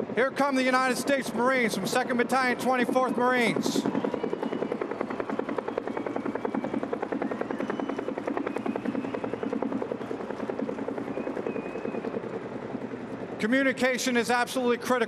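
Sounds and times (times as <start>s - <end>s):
faint turbine whine: 0.0s - 15.0s
helicopter rotors chopping: 0.0s - 15.0s.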